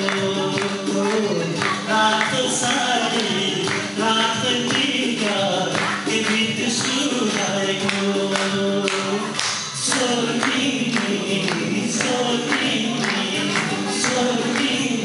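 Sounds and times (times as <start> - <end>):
man singing into microphone: 0.0 - 15.0
steady beat: 0.0 - 15.0.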